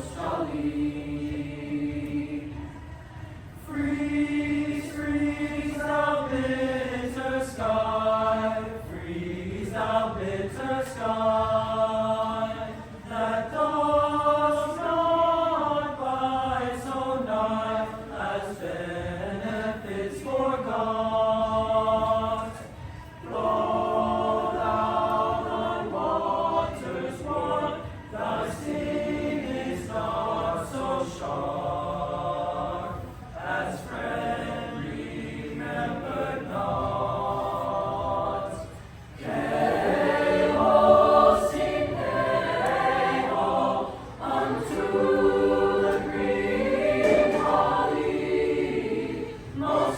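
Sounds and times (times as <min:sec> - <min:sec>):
choir singing: 0:00.0 - 0:49.9.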